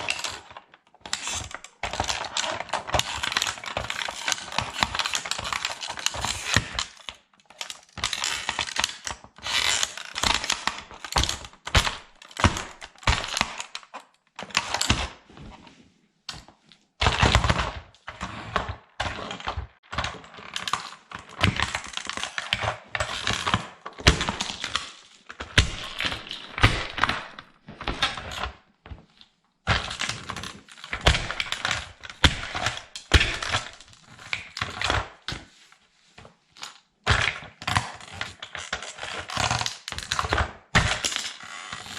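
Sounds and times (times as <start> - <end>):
plastic toy cracking and crunching: 0.0 - 15.2, 17.0 - 28.6, 29.7 - 35.4, 36.6 - 41.9.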